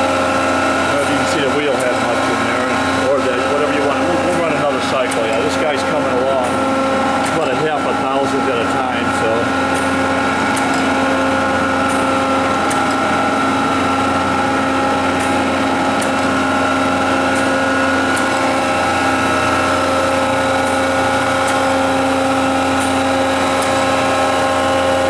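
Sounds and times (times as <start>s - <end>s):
grinder spindle humming: 0.0s - 25.0s.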